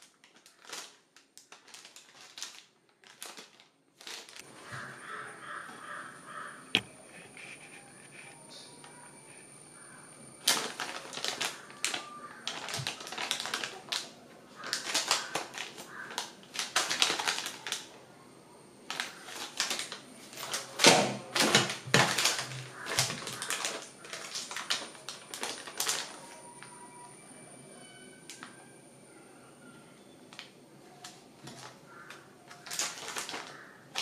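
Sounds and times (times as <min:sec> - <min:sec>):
plastic packets crinkling: 0:00.0 - 0:06.4, 0:09.8 - 0:18.0, 0:18.8 - 0:27.1, 0:27.8 - 0:28.6, 0:30.2 - 0:34.0.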